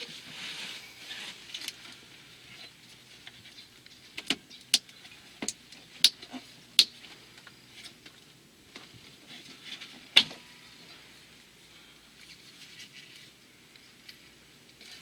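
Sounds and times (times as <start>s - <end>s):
soft rustling hiss: 0.0s - 15.0s.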